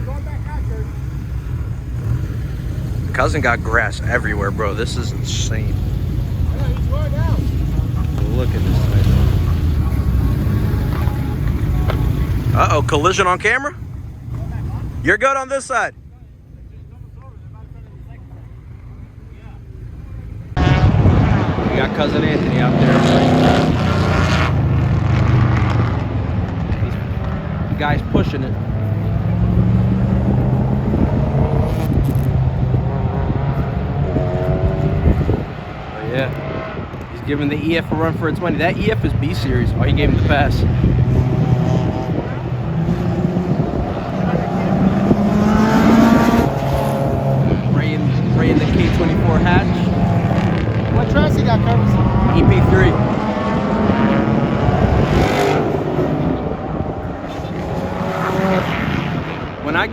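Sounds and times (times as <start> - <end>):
higher-pitched engine: 0.0 - 59.9
low race car engine: 0.0 - 59.9.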